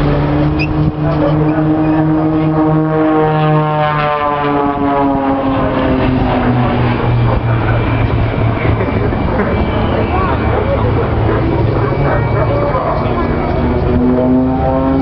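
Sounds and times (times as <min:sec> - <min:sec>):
propeller planes droning overhead: 0:00.0 - 0:15.0.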